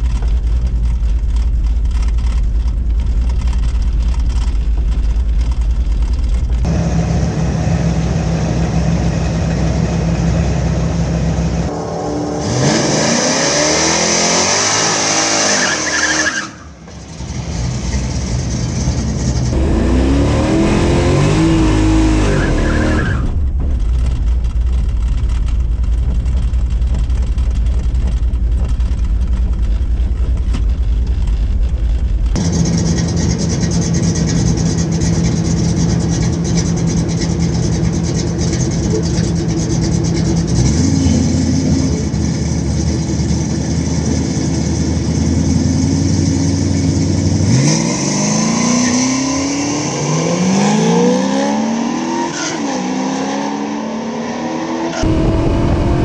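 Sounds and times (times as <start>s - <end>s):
drag racing car engine: 0.0s - 56.0s.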